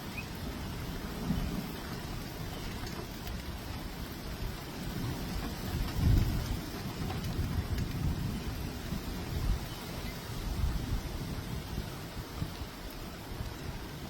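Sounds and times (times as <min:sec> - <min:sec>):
gusty storm wind: 0:00.0 - 0:14.0
rain: 0:00.0 - 0:14.0.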